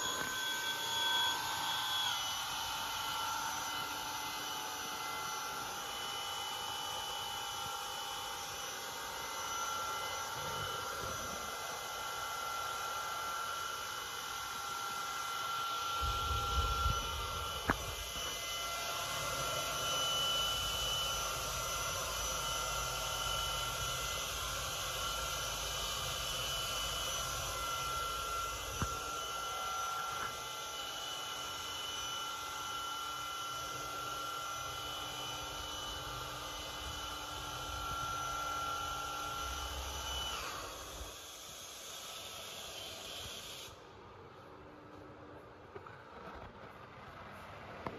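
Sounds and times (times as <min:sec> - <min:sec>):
high whining tones: 0:00.0 - 0:41.3.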